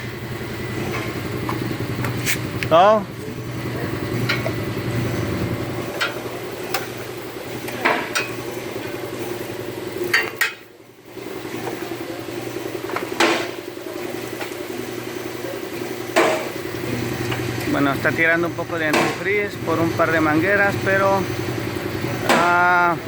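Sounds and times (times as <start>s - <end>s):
hydraulic pump motor humming: 0.0s - 23.0s.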